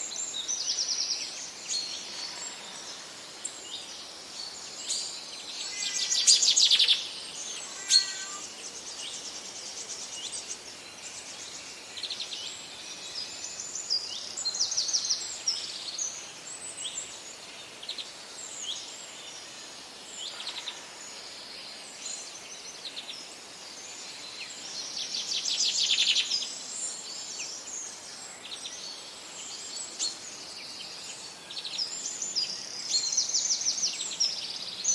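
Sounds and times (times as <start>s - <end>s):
songbirds singing: 0.0s - 34.9s
steady background hiss: 0.0s - 34.9s.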